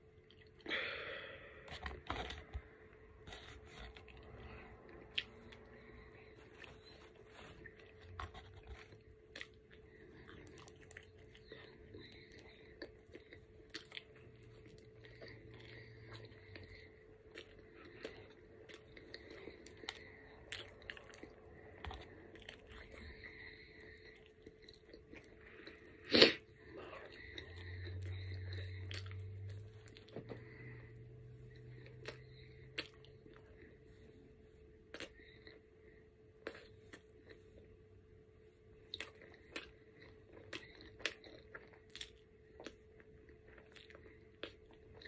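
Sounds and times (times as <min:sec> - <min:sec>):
low hum: 0:00.0 - 0:44.2
close-up chewing with mouth clicks: 0:03.3 - 0:34.0, 0:34.8 - 0:35.6, 0:36.4 - 0:37.8, 0:38.8 - 0:45.0.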